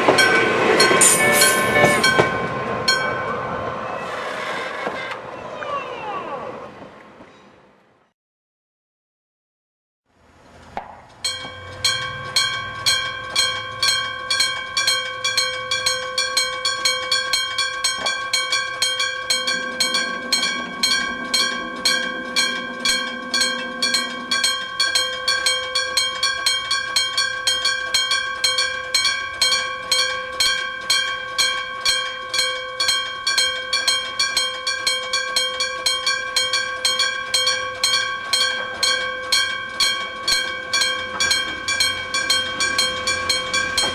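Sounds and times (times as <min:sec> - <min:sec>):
level crossing bells ringing: 0:00.0 - 0:03.6, 0:11.2 - 0:43.9.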